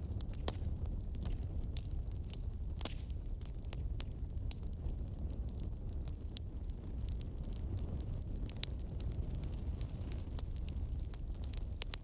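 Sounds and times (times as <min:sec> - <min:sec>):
low fire rumble: 0:00.0 - 0:12.0
wood fire crackling: 0:00.0 - 0:12.0.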